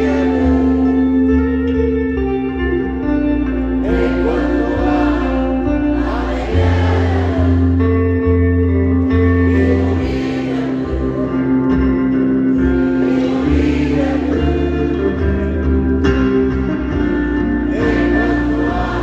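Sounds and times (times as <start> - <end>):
concert crowd singing along: 0.0 - 19.0
live band playing slow song: 0.0 - 19.0.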